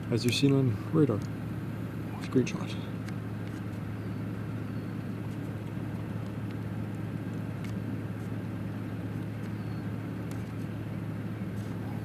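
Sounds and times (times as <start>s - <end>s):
road and engine noise in cabin: 0.0s - 12.0s.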